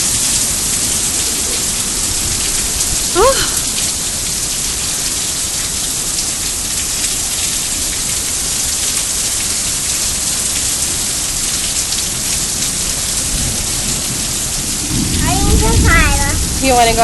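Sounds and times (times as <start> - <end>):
faint raindrop ticks: 0.0 - 17.0
rain falling steadily: 0.0 - 17.0.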